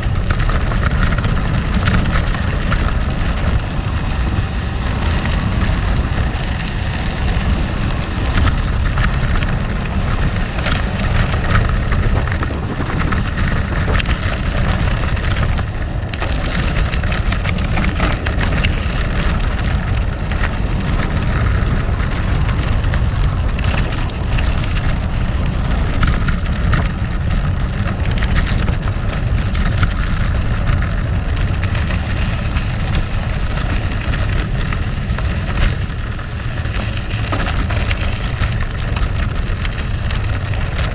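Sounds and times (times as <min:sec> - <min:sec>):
bike rattling: 0:00.0 - 0:40.9
bike tyres crunching on gravel: 0:00.0 - 0:40.9
low rumble: 0:00.0 - 0:40.9.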